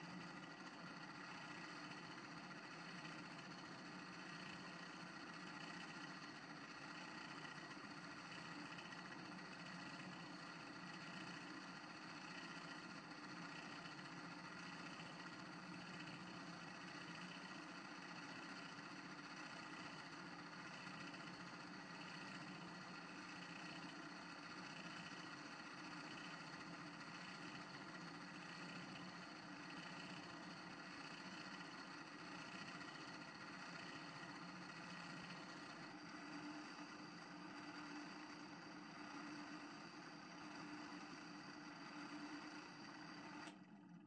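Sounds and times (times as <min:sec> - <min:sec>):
wood lathe running: 0:00.0 - 0:43.5.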